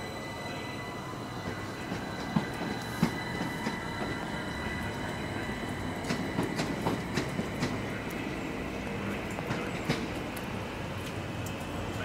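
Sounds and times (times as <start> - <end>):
train rumble: 0.0 - 12.0
wheels clicking over rail joints: 1.4 - 12.0.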